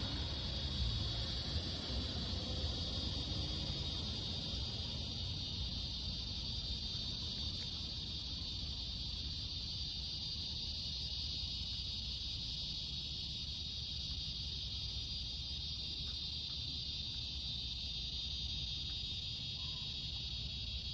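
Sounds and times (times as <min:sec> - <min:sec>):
night insects droning: 0:00.0 - 0:20.9.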